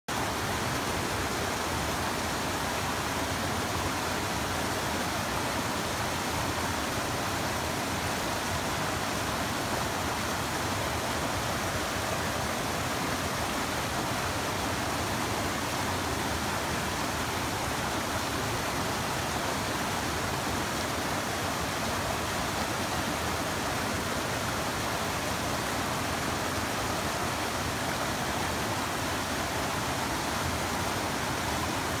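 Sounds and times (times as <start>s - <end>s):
stream rushing over rocks: 0.1s - 32.0s.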